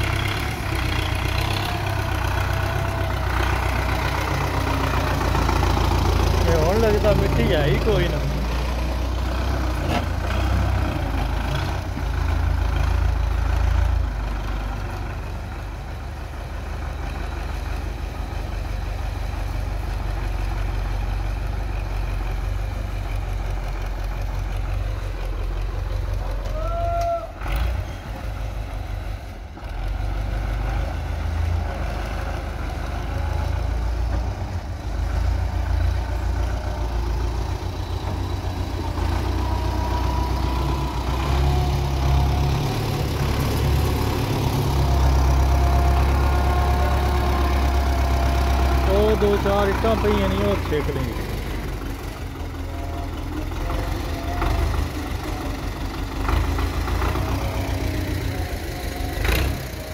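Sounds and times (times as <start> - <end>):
tractor diesel engine rumbling: 0.0 - 59.9.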